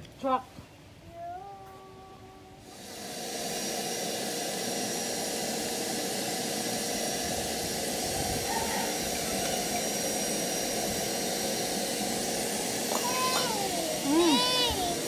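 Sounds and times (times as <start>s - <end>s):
vacuum cleaner running: 2.6s - 15.0s.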